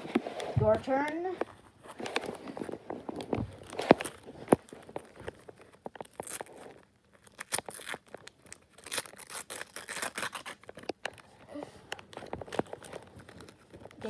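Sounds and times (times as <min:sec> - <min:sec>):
foil wrapper tearing and crinkling: 0:01.9 - 0:11.4, 0:12.0 - 0:14.0.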